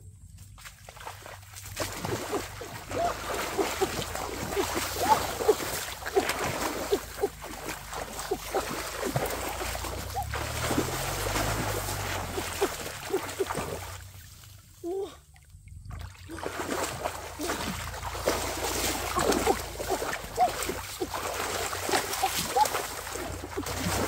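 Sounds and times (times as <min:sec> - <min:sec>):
water splashing from wading: 0:00.7 - 0:24.0.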